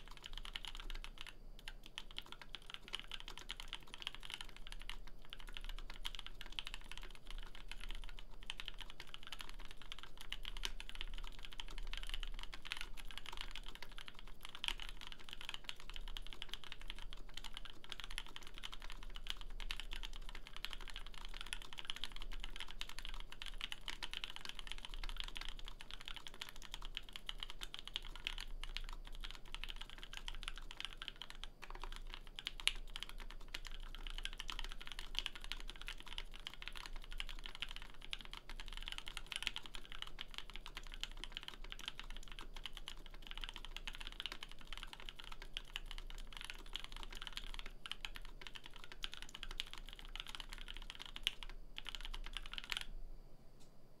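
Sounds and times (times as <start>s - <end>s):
fast mechanical keyboard typing: 0.0s - 52.9s.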